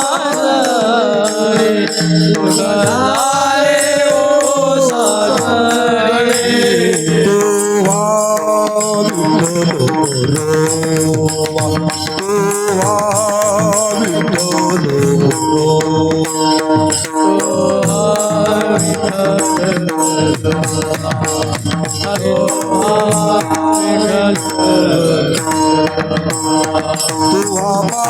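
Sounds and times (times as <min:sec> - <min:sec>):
held accompanying notes: 0:00.0 - 0:28.0
percussion beat: 0:00.0 - 0:28.0
person singing devotional song: 0:00.0 - 0:28.0.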